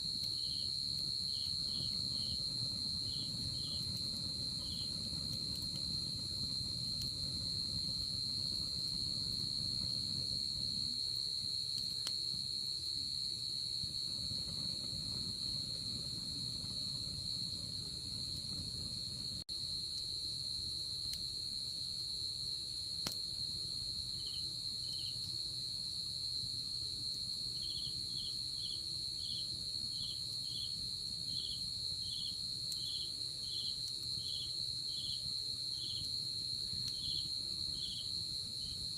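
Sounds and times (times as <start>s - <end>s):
campfire rumble and crackles: 0.0s - 38.9s
crickets trilling: 0.0s - 38.9s
insect chirping: 0.0s - 38.9s.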